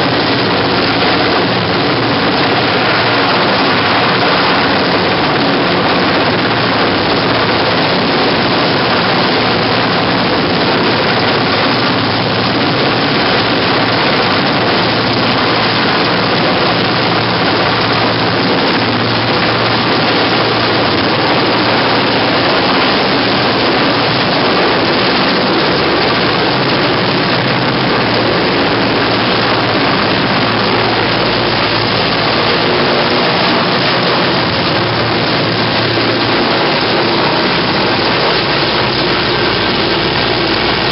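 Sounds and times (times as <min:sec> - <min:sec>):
helicopter rotors and turbines: 0:00.0 - 0:40.9.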